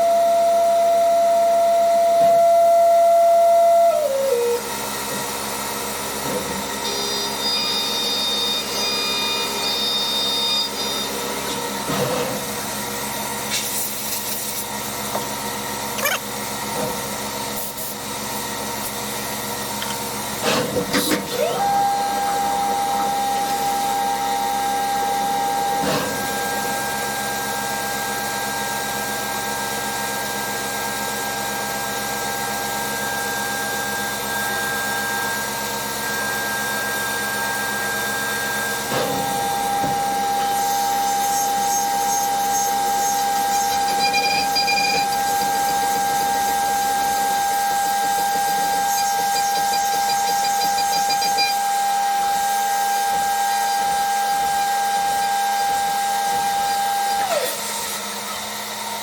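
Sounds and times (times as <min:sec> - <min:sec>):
steady machining noise: 0:00.0 - 0:59.0.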